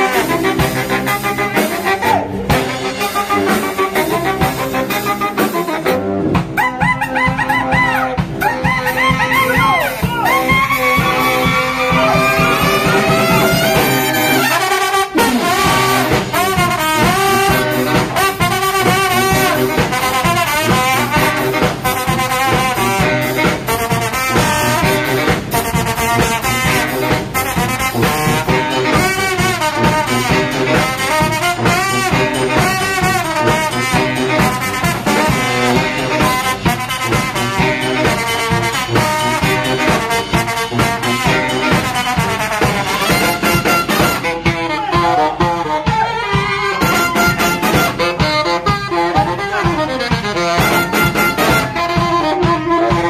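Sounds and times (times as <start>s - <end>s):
brass music with steady beat: 0.0s - 53.0s.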